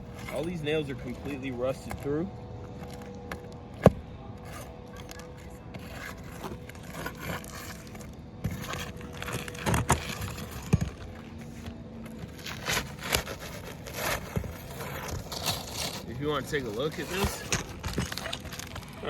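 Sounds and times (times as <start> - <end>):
scraping of roof shingle: 0.0 - 19.0.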